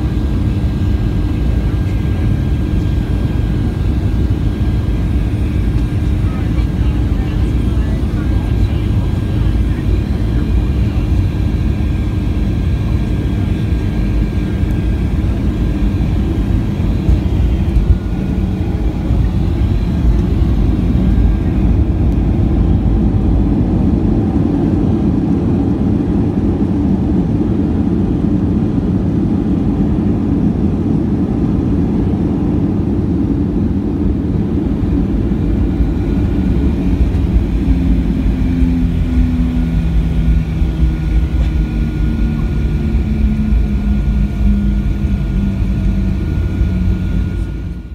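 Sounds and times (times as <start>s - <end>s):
jet engine roar in cabin: 0.0s - 47.9s.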